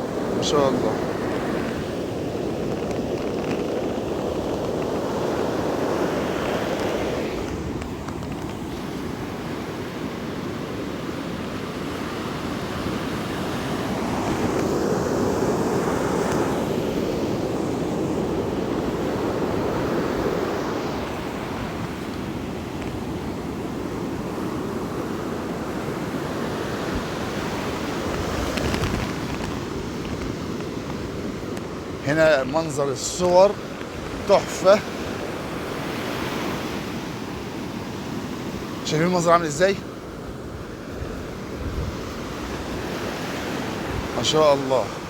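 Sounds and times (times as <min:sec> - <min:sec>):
wind buffeting microphone: 0:00.0 - 0:38.8, 0:39.6 - 0:45.0.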